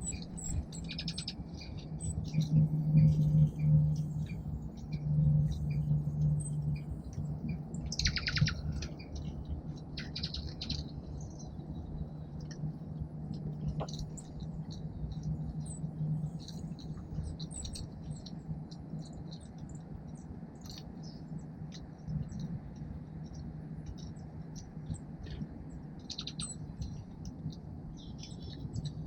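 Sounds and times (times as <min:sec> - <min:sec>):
songbirds buzzy chatter: 0:00.0 - 0:29.0.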